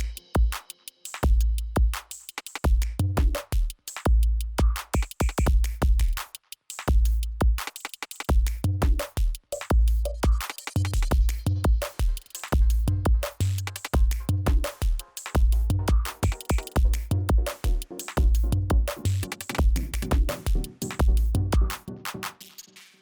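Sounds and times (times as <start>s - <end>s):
electronic music with drum beat: 0.0s - 23.0s.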